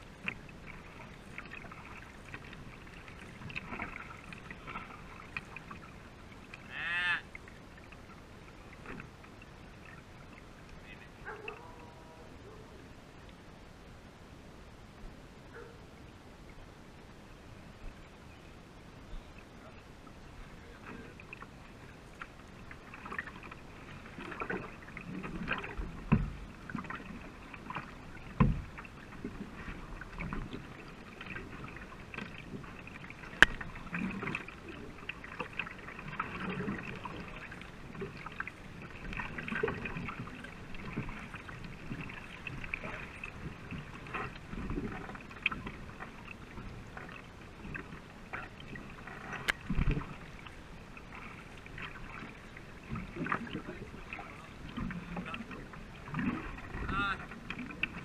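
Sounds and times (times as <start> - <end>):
paddles splashing in water: 0.0 - 12.6, 19.3 - 58.0
water washing along hull: 0.0 - 13.6, 15.4 - 58.0.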